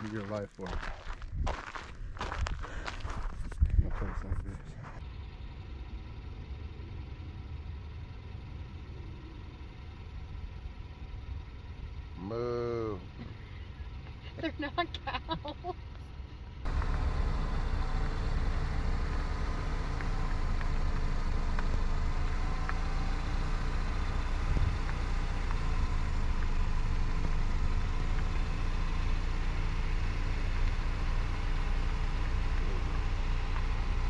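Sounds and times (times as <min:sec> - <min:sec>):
vehicle road and engine rumble: 0:00.0 - 0:34.0.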